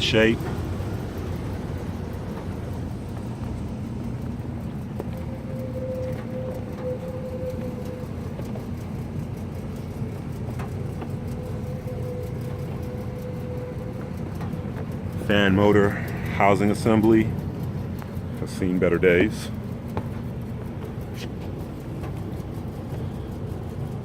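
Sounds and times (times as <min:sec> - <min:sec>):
faint whine: 0:00.0 - 0:24.0
low mechanical hum of hvac units: 0:00.0 - 0:24.0.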